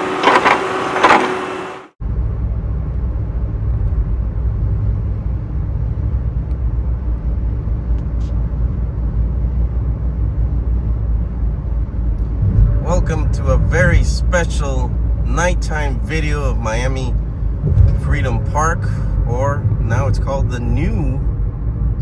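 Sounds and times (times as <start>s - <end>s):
car driving road noise: 0.0s - 22.0s
car engine rumble: 0.0s - 22.0s.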